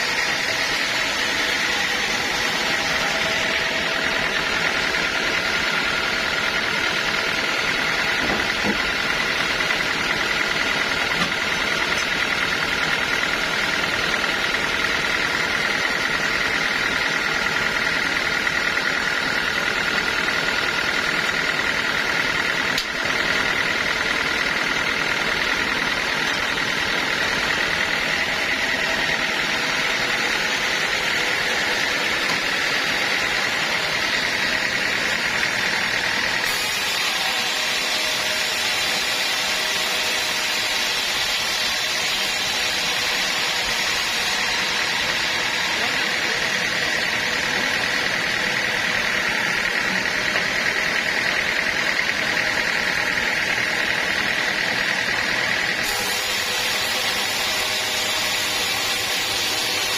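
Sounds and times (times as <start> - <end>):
bandsaw running with high whine: 0.0 - 59.9.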